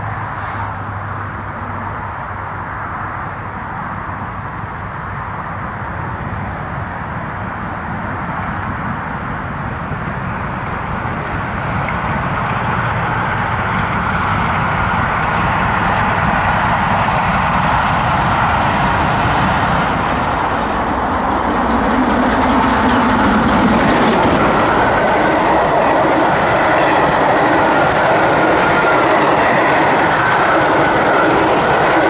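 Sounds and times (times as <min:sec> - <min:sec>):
steam locomotive exhaust and running: 0:00.0 - 0:32.0.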